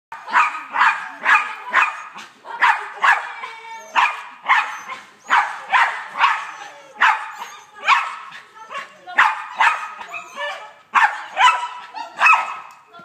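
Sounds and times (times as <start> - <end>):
small dog barking: 0.1 - 3.3, 3.9 - 12.7.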